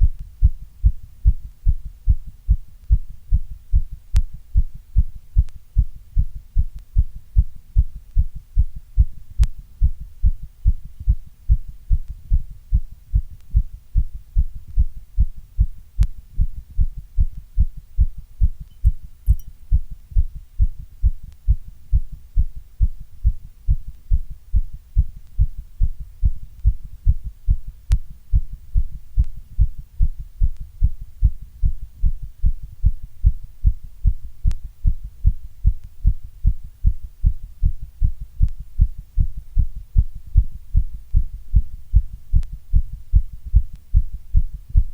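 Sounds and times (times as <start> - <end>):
heartbeat thumps: 0.0 - 44.9.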